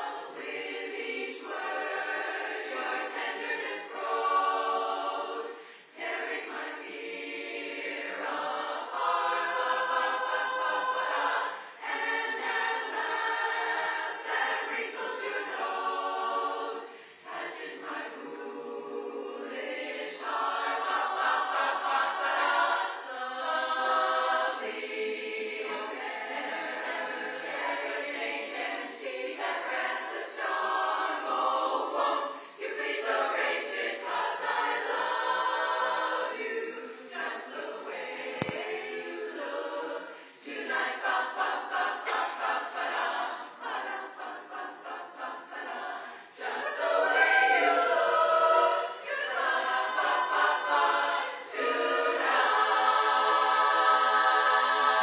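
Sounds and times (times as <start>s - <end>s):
large choir singing: 0.0s - 55.0s.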